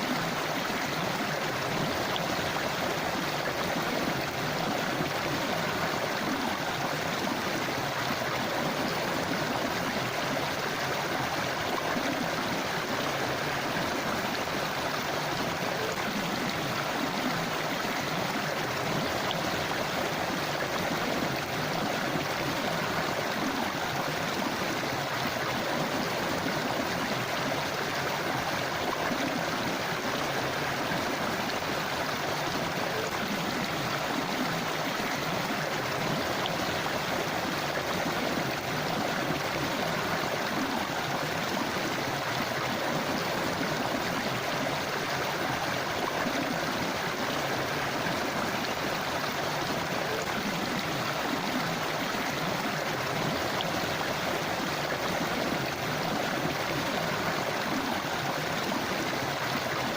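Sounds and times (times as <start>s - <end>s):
river water over rocks: 0.0s - 59.9s.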